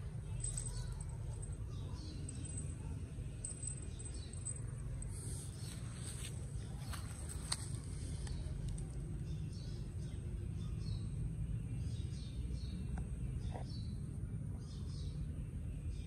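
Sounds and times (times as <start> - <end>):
bird chirping: 0.0 - 16.0
low outdoor rumble: 0.0 - 16.0.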